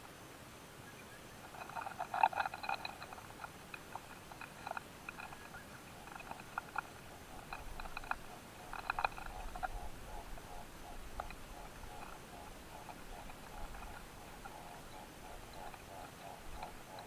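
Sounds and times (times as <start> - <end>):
insect clicks and crackles: 1.4 - 17.0.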